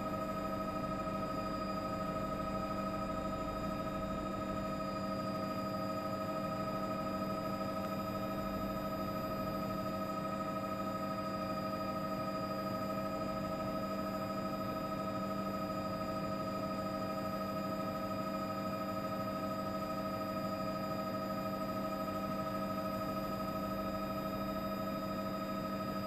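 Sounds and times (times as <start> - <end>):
helicopter engine and rotors droning: 0.0 - 26.0.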